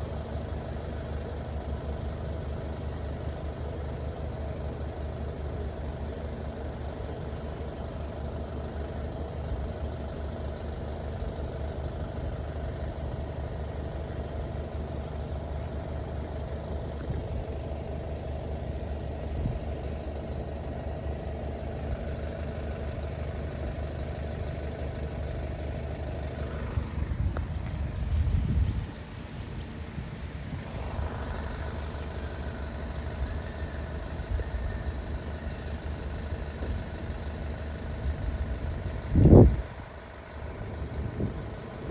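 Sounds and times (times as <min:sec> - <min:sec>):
engine idling: 0:00.0 - 0:41.9
engine surging: 0:05.9 - 0:41.9.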